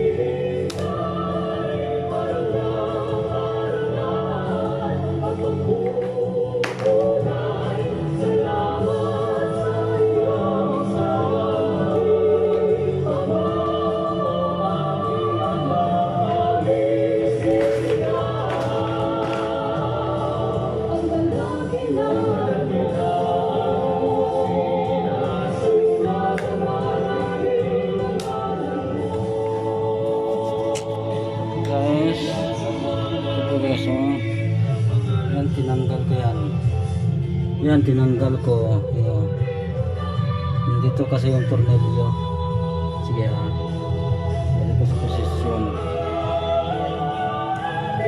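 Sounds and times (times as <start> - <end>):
gospel choral music: 0.0 - 48.0.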